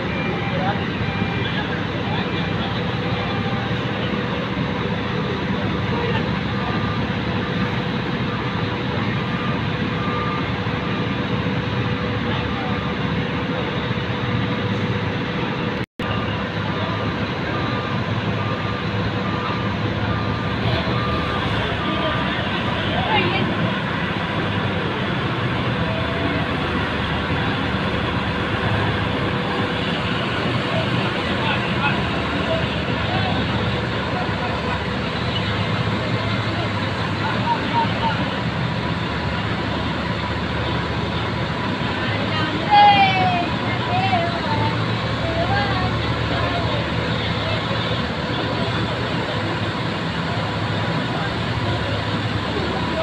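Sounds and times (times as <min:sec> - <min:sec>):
heavy machinery drone: 0:00.0 - 0:53.0.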